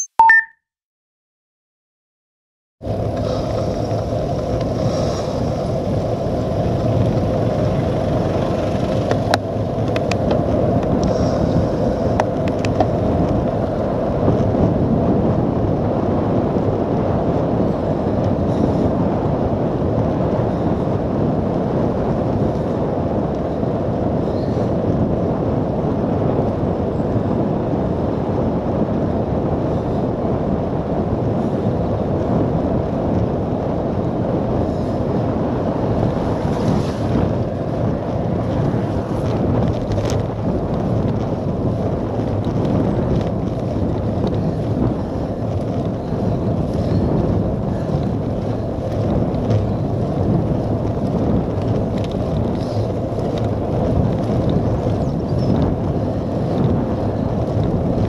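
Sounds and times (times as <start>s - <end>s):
road noise from wet road: 2.8s - 58.0s
wind rush: 2.8s - 58.0s.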